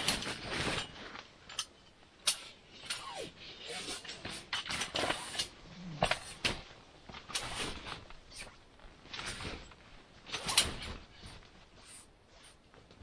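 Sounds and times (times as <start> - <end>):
rustling and scraping: 0.0 - 13.0.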